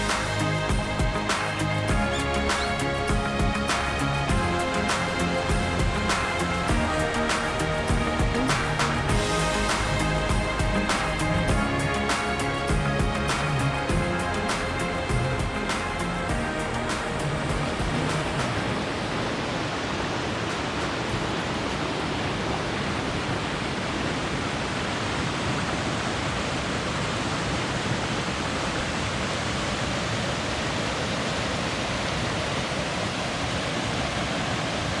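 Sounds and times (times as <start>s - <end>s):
river rushing over rocks: 0.0s - 35.0s.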